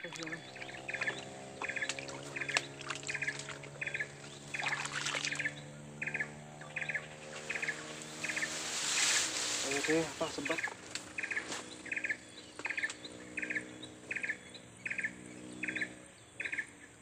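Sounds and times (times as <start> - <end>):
steady low hum: 0.0 - 17.0
rapid chirping trill: 0.1 - 16.8.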